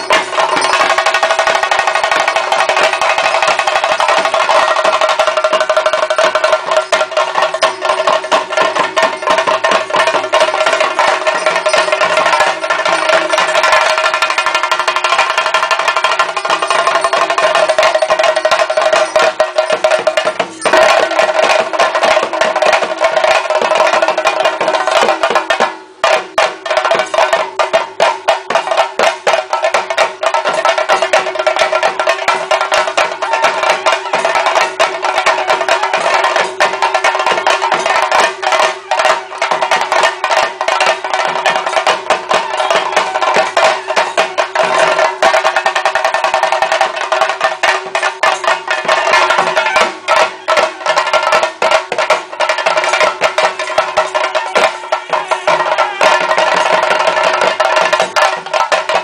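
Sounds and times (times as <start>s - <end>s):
drums beaten with sticks: 0.0s - 59.0s.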